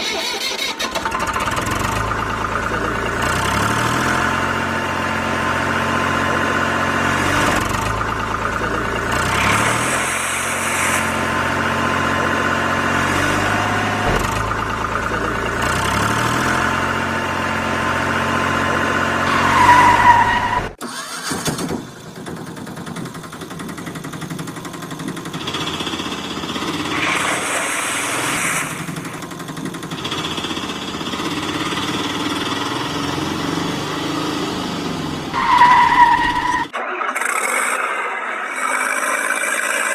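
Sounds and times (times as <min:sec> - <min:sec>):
tractor engine idling: 0:00.0 - 0:27.0, 0:28.8 - 0:38.8.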